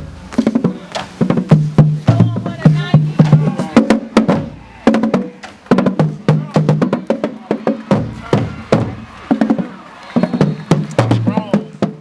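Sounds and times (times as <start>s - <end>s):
drumline playing a cadence: 0.0s - 12.0s.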